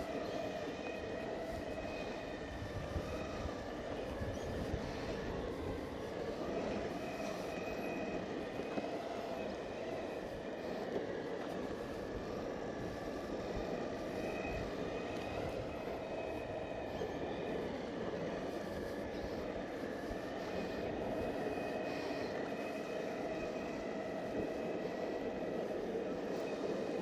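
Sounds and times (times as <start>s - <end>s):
faint electric motor whine: 0.0s - 27.0s
skateboard wheels rumbling on asphalt: 0.0s - 27.0s.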